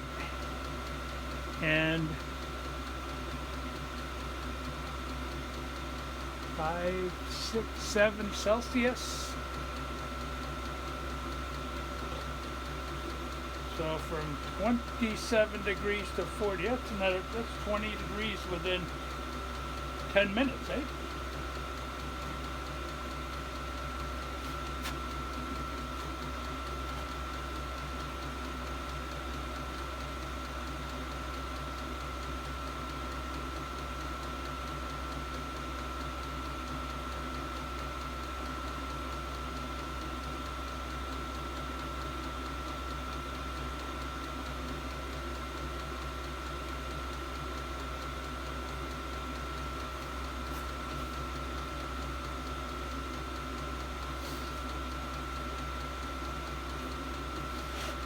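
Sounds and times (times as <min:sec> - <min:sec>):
diesel air heater blower whirring: 0:00.0 - 0:58.0.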